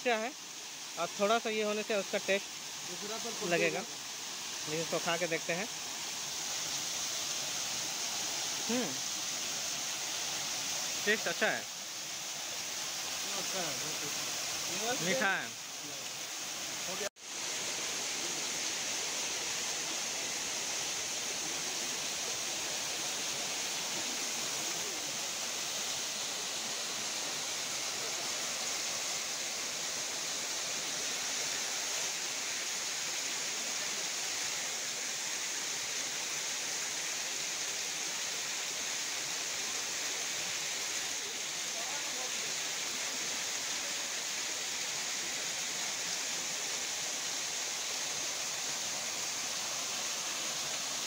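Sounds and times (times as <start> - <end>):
waterfall splashing over rocks: 0.0 - 51.0.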